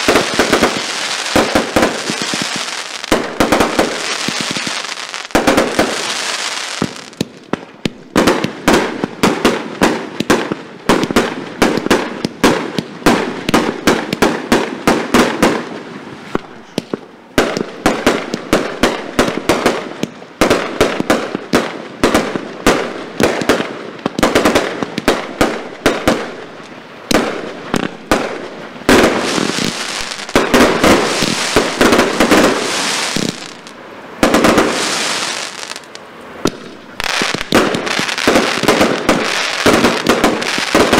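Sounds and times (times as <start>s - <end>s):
dense firework crackling: 0.0s - 40.9s
firework shots popping and cracking: 0.0s - 40.9s.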